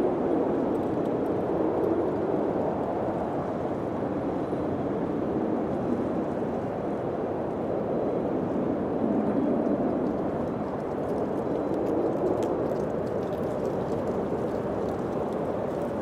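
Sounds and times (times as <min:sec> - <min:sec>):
low steady wind: 0:00.0 - 0:16.0.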